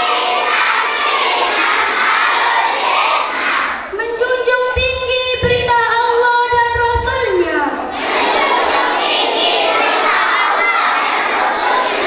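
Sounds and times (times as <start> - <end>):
children shouting and chanting: 0.0 - 12.0.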